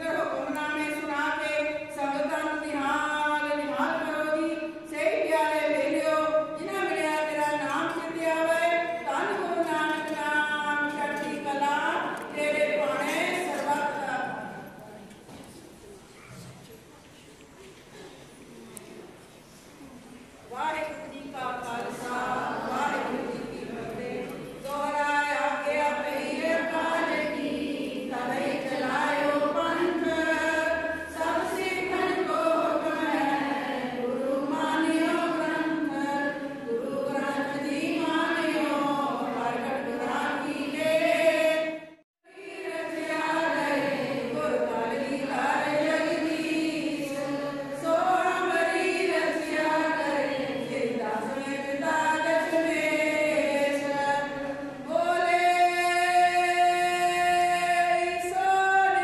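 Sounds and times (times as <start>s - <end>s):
women chanting a hymn: 0.0s - 14.8s, 20.5s - 59.0s.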